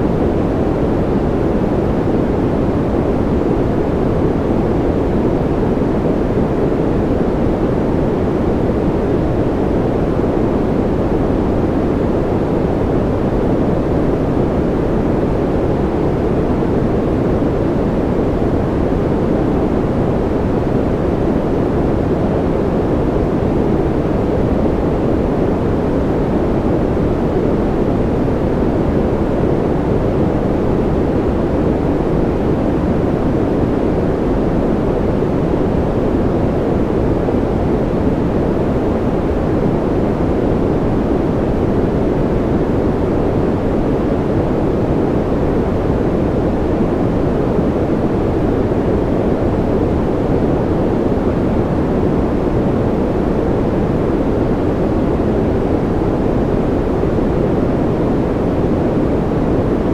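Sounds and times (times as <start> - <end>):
deep muffled white noise: 0.0 - 59.9.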